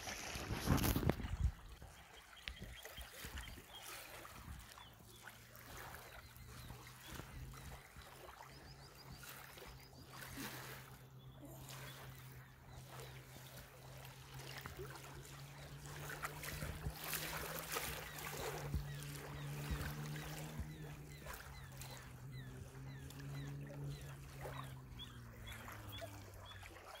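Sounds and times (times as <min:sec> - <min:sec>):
low engine hum: 0:00.0 - 0:27.0
waves lapping on sandy bank: 0:00.0 - 0:27.0.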